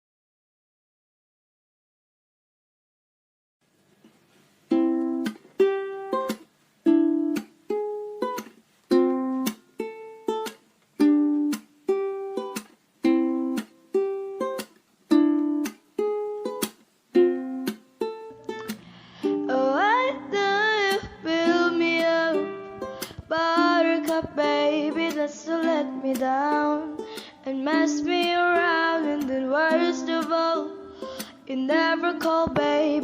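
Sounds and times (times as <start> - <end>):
ukulele strumming chords: 4.0 - 33.0.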